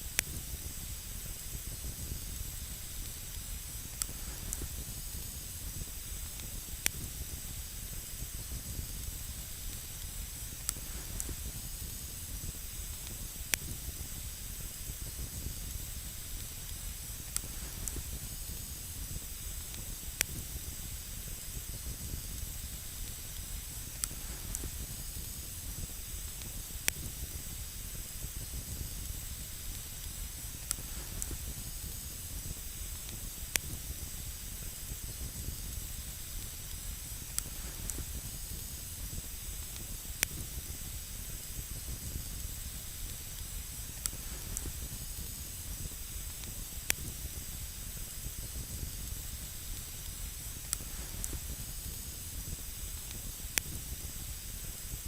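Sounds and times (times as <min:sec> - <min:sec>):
campfire hiss and rumble: 0:00.0 - 0:55.0
burning wood crackling: 0:00.1 - 0:55.0.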